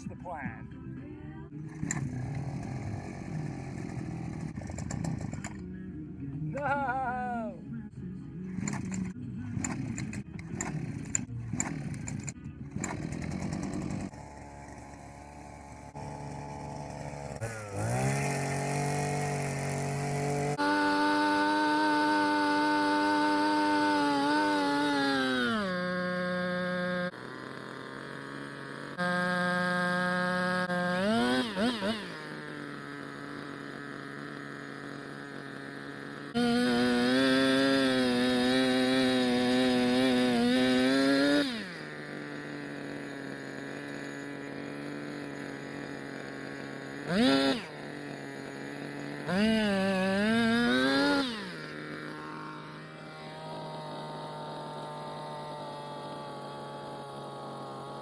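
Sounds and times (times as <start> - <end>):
earth auger engine revving: 0.0 - 58.0.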